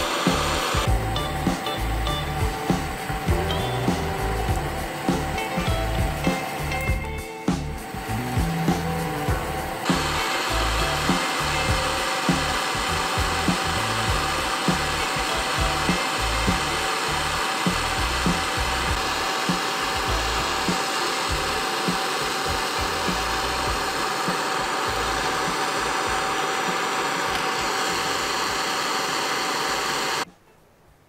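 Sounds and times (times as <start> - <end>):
blowtorch flame hissing: 0.0 - 30.3.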